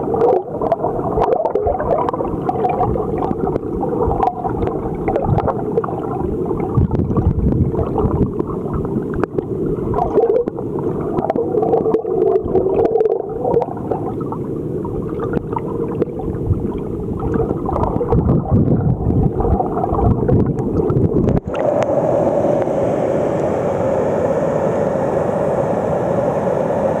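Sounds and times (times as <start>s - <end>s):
stream water gurgling: 0.0s - 27.0s.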